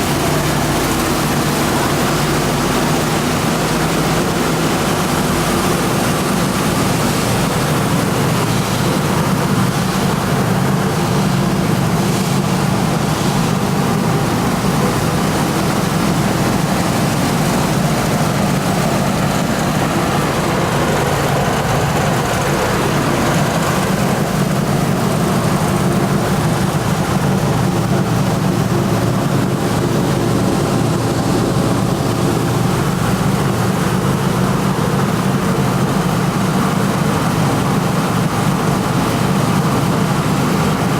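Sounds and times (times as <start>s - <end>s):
recycling machine droning: 0.0s - 40.9s.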